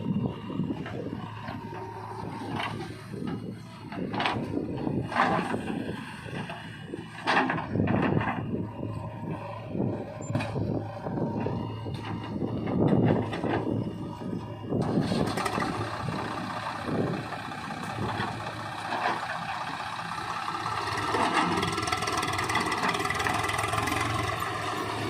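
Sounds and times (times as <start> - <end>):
backhoe loader diesel engine: 0.0 - 25.0
tractor engine running: 0.0 - 25.0.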